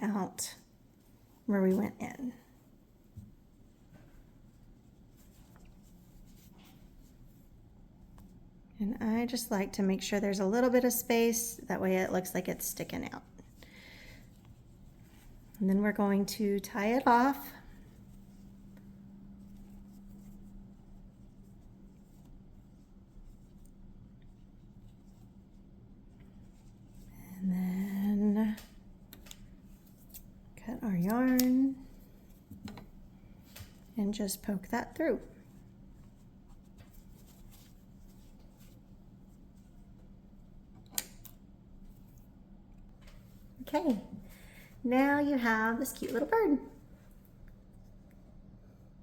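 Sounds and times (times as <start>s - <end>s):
yarn rustling in hands: 0.0s - 9.2s, 10.1s - 42.4s
steady low hum: 0.0s - 49.0s.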